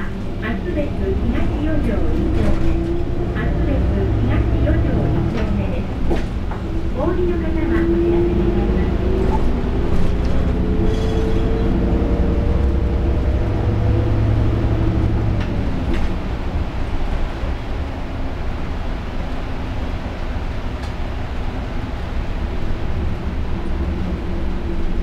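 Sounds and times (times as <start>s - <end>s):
bus engine whine and drone: 0.0s - 25.0s
road noise: 0.0s - 25.0s.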